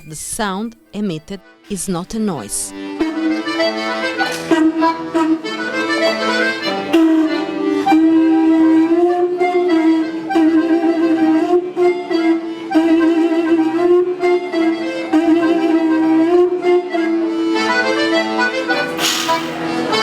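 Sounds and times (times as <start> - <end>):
reedy folk melody: 0.0 - 20.0.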